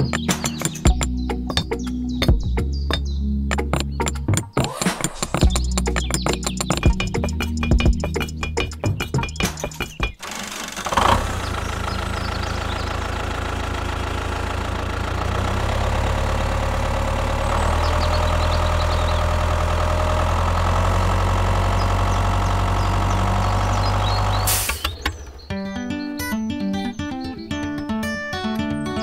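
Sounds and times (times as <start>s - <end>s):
tractor engine running: 0.0s - 25.6s.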